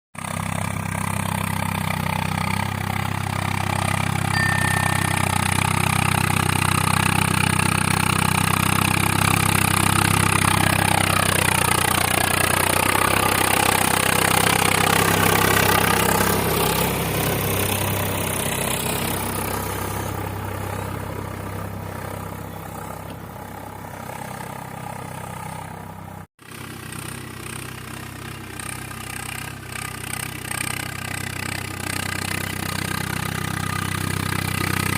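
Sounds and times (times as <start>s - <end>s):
heavy diesel engine running: 0.2s - 34.9s.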